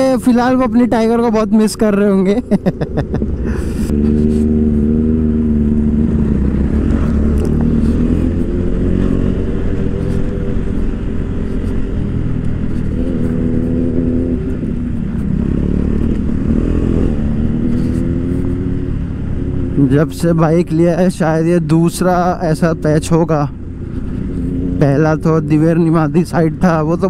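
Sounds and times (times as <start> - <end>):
wind and road noise: 0.0 - 27.0
motorcycle engine running: 2.4 - 27.0.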